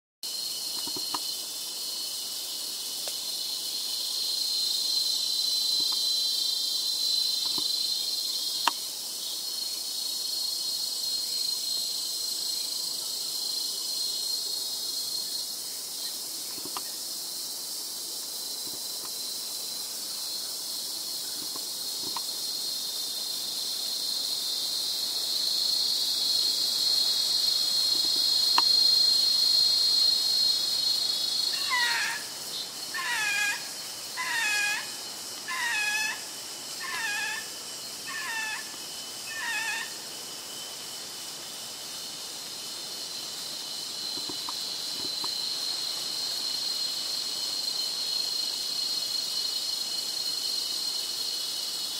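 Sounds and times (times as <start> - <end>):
insect chorus drone: 0.2 - 51.9.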